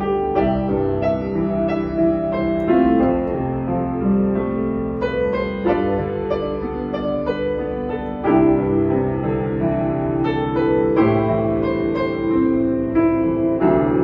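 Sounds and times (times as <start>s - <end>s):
solo grand piano chords: 0.0s - 14.0s.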